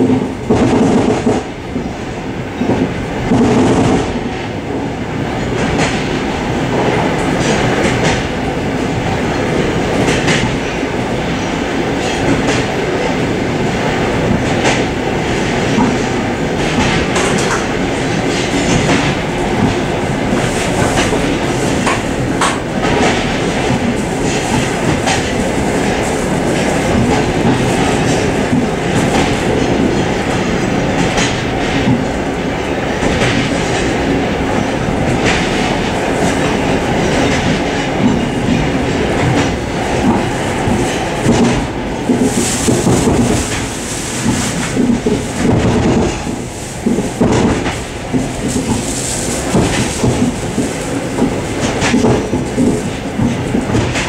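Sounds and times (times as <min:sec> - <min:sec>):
rail joint clicks and knocks: 0:00.0 - 0:54.0
train wheels rumbling on rail: 0:00.0 - 0:54.0.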